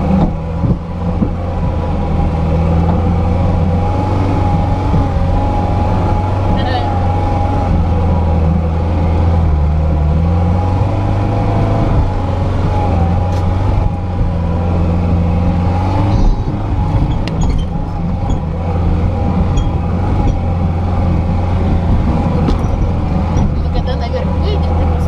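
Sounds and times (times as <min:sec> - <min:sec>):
car engine running at low revs: 0:00.0 - 0:25.0.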